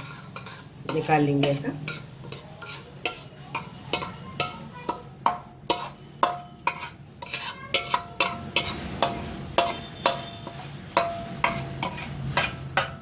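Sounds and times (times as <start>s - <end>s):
spatula scraping metal pan: 0.0s - 13.0s.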